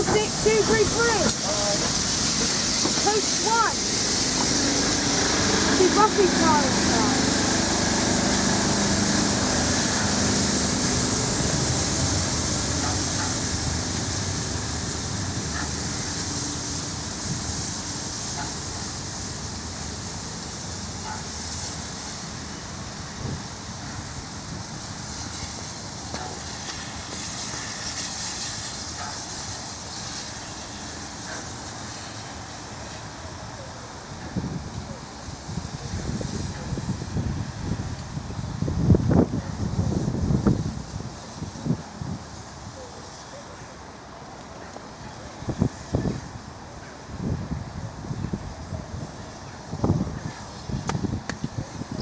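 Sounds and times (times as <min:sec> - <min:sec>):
locomotive engine hum: 0:00.0 - 0:52.0
train wheels rushing on rails: 0:00.0 - 0:52.0.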